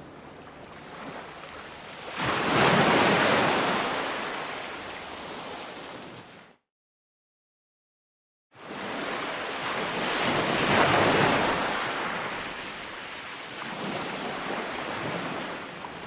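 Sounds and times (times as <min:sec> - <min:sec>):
ocean wave breaking on shore: 0:00.7 - 0:06.3, 0:08.6 - 0:16.0.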